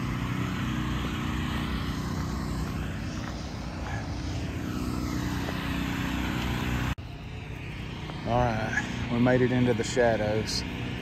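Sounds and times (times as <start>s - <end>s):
low engine drone with hiss: 0.0s - 11.0s.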